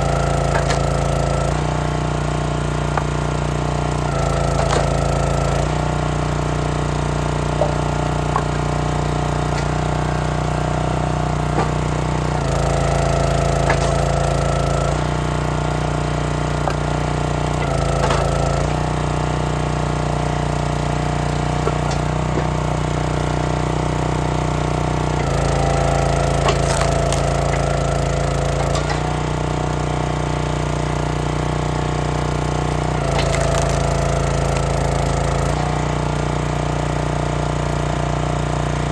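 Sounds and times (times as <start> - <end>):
wood cracking and splintering: 0.0 - 36.5
small gas engine running: 0.0 - 38.9.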